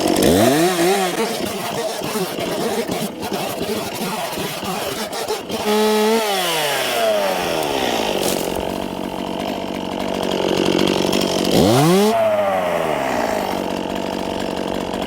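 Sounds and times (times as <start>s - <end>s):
chainsaw cutting branches: 0.0s - 15.0s.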